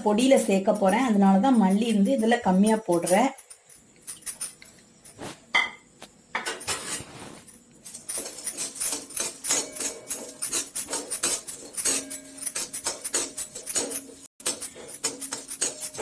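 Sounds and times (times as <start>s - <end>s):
metal spoon scraping a pan: 0.0s - 5.8s, 6.4s - 16.0s.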